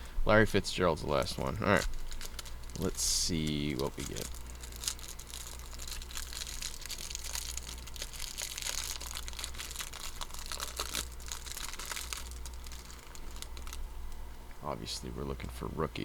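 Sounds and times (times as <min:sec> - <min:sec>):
foil wrapper crinkling and tearing: 0:01.1 - 0:14.0.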